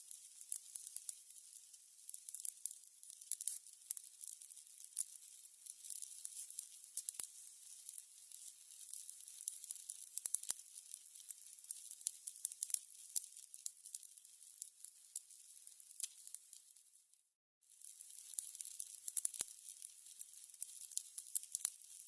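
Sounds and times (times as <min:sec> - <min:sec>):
candles crackling: 0:00.0 - 0:17.0, 0:17.7 - 0:22.0.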